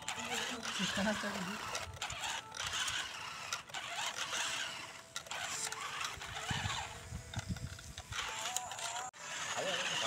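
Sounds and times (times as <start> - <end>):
toy motor and gearbox whirring: 0.0 - 10.0.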